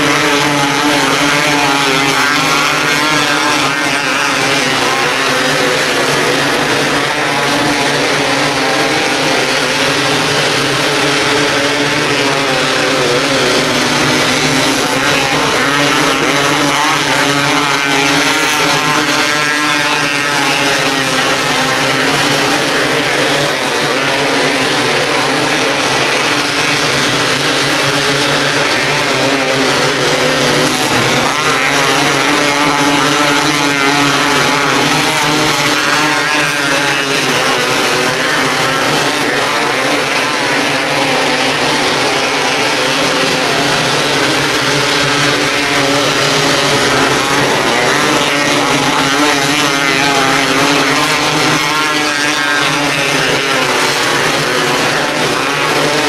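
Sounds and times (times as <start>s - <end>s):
sprint car engines racing: 0.0s - 56.0s.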